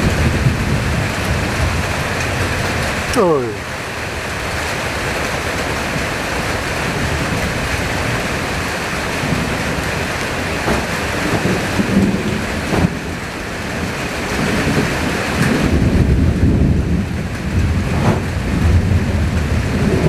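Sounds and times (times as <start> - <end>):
heavy rain pouring: 0.0 - 20.0
low rumbles: 0.0 - 20.0.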